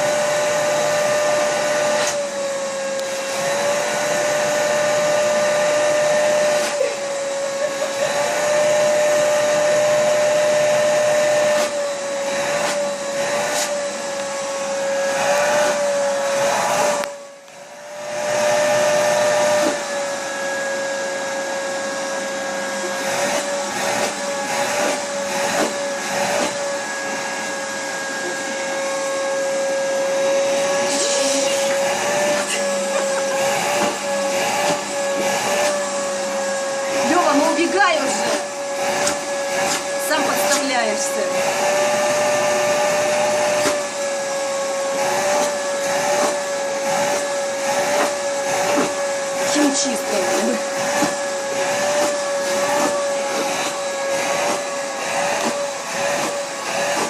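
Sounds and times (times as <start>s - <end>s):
vacuum cleaner whining: 0.0s - 57.0s.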